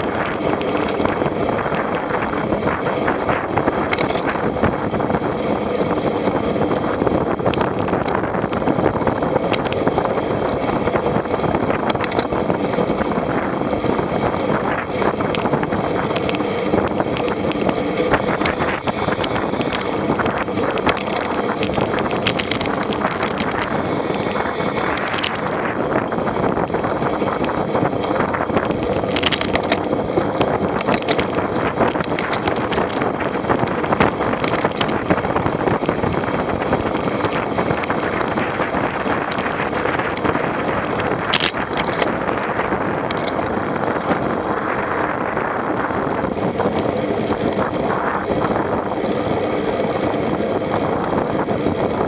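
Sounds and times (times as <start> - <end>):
vehicle running noise: 0.0 - 52.0
wind buffeting microphone: 0.0 - 52.0.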